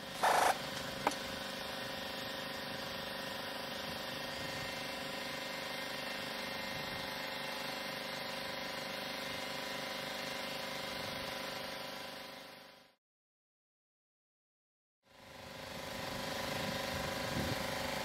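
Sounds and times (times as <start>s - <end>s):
steady mechanical hum: 0.0s - 12.8s, 15.2s - 18.0s.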